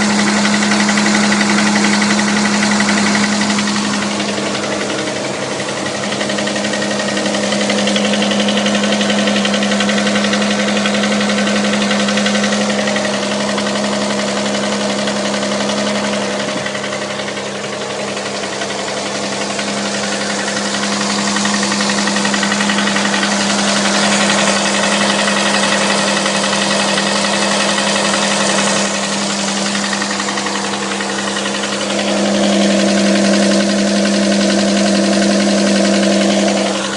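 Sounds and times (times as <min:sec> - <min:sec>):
engine running with a knock: 0:00.0 - 0:36.9.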